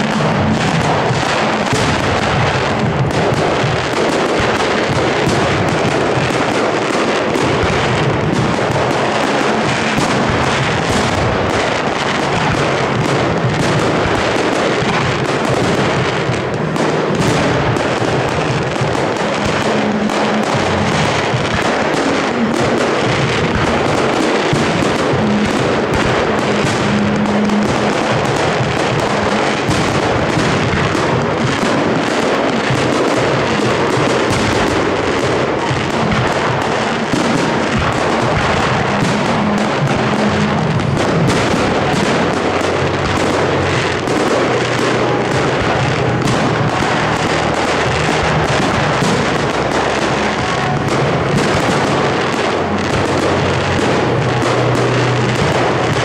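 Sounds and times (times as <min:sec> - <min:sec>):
fireworks bursting: 0:00.0 - 0:56.0
music playing: 0:00.0 - 0:56.0.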